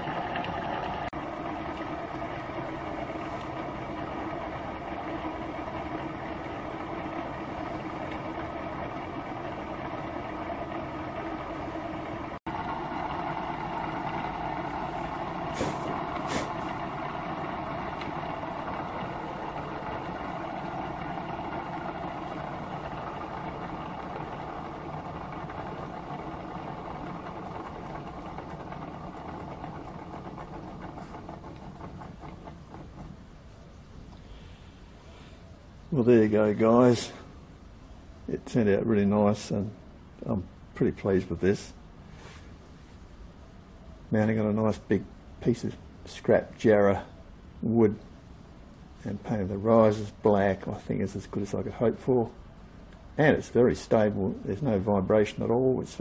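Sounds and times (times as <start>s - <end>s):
engine mechanical whirr: 0.0s - 56.0s.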